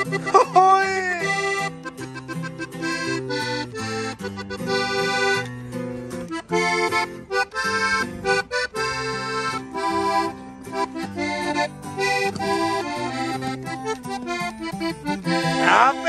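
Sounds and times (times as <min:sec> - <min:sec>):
acoustic guitar: 0:00.0 - 0:16.0
button accordion melody: 0:00.0 - 0:16.0.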